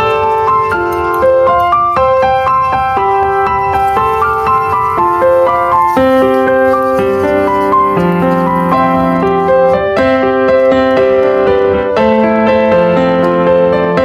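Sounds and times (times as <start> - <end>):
gentle piano tune: 0.0 - 14.0.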